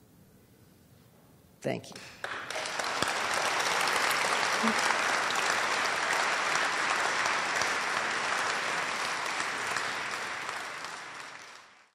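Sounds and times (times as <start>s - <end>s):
audience applauding: 2.2s - 11.9s.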